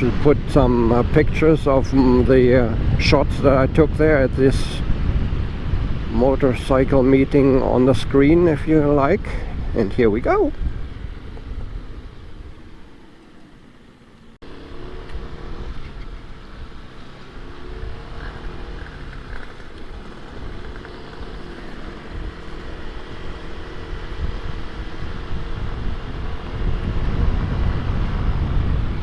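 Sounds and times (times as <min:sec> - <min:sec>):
wind buffeting a microphone: 0:00.0 - 0:13.1, 0:14.9 - 0:29.0
scooter engine humming: 0:00.0 - 0:29.0.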